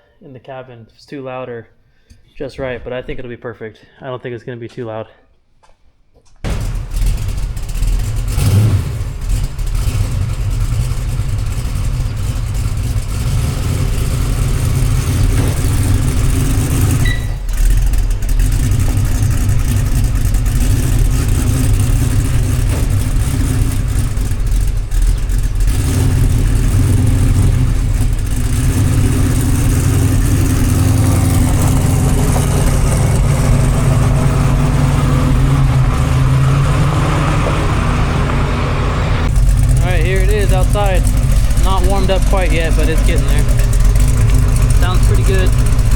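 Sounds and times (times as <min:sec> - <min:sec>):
car engine idling: 0:06.5 - 0:45.9.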